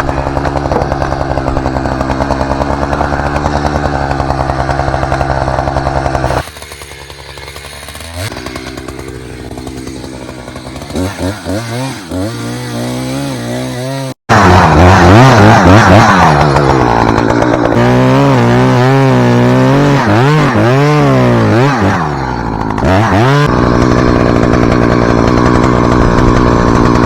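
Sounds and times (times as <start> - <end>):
chainsaw running and revving: 0.0 - 27.0.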